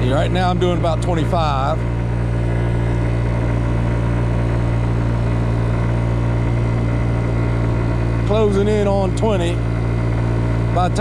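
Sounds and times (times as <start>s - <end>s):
scooter engine running under load: 0.0s - 11.0s.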